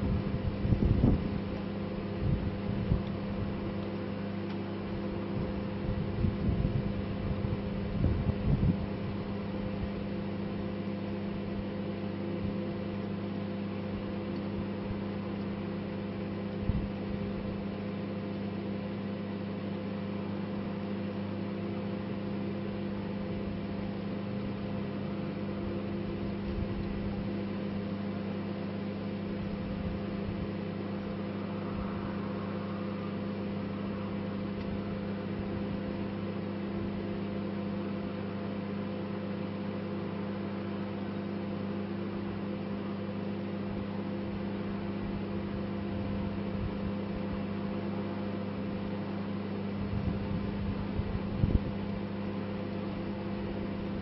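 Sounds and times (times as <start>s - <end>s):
microwave oven humming: 0.0s - 54.0s.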